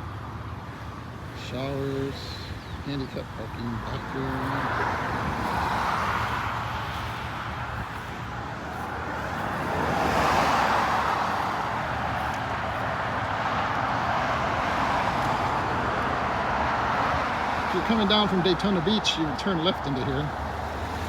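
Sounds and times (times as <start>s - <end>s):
cars driving by: 0.0s - 21.0s.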